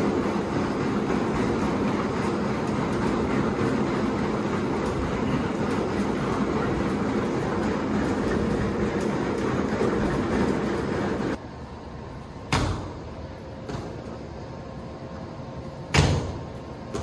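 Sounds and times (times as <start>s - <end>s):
treadmill belt rumble and clatter: 0.0s - 17.0s.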